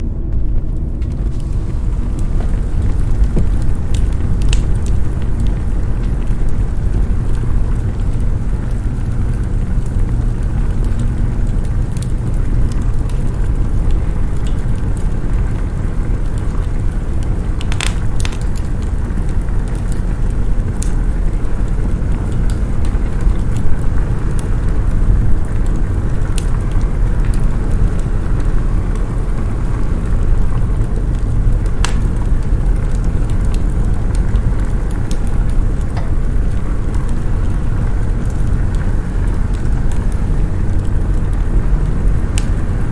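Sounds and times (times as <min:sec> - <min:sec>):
fire pops: 0:00.0 - 0:42.9
snowstorm wind rumble: 0:00.0 - 0:42.9
wood fire crackling: 0:00.0 - 0:42.9.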